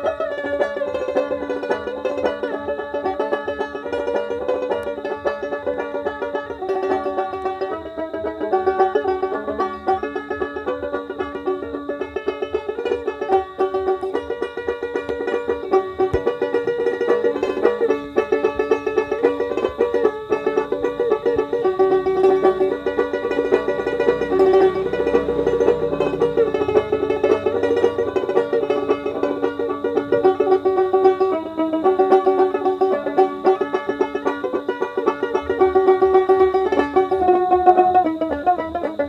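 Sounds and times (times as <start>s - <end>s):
plucked lute melody: 0.0s - 39.0s.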